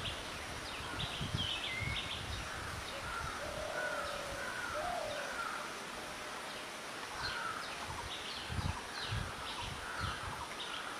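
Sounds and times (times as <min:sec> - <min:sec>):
outdoor background noise: 0:00.0 - 0:10.9.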